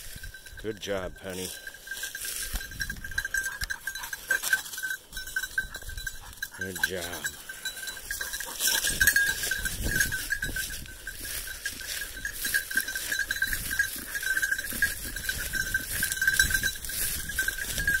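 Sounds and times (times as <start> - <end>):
collar bell jingling: 0.0 - 18.0
dog footsteps: 0.0 - 18.0.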